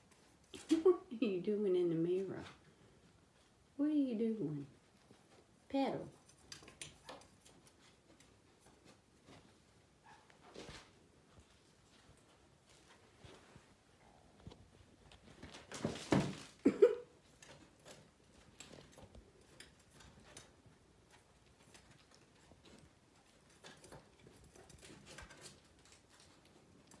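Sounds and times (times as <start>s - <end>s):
puppies scuffling and rustling: 4.8s - 27.0s.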